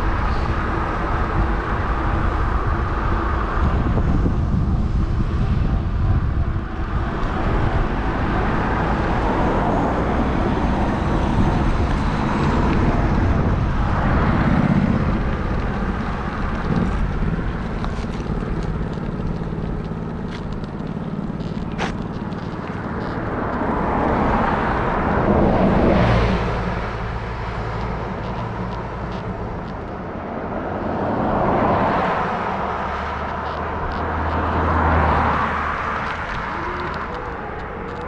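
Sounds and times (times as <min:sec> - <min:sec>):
cars passing by: 0:00.0 - 0:38.0
low engine hum: 0:00.0 - 0:38.0.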